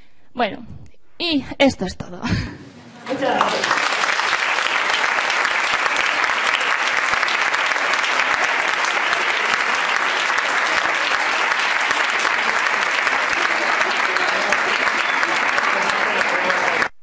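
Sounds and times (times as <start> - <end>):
audience applauding: 3.1 - 17.0.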